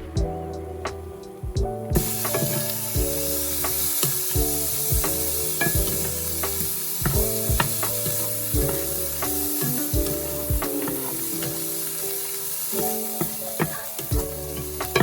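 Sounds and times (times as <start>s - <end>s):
music with a steady beat: 0.0s - 15.0s
food sizzling in a pan: 2.0s - 15.0s.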